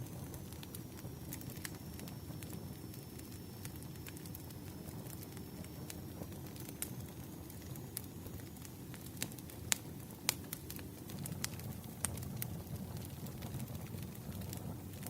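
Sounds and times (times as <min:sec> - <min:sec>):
burning wood popping: 0:00.0 - 0:15.0
fire rumbling: 0:00.0 - 0:15.0.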